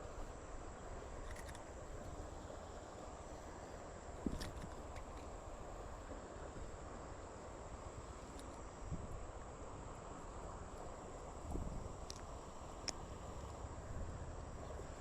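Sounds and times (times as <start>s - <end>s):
faint outdoor rumble: 0.0s - 15.0s.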